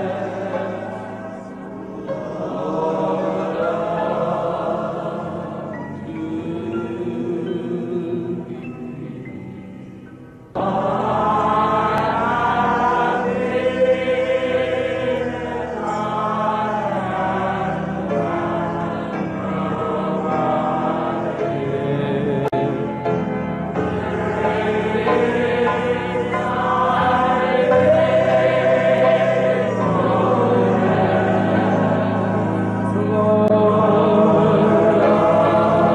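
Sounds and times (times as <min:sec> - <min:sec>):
choir singing held notes: 0:00.0 - 0:35.9.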